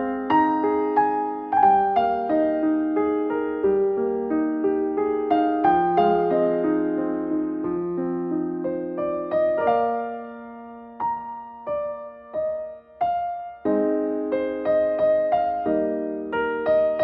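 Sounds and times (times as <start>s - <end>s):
gentle electric piano melody: 0.0s - 17.0s.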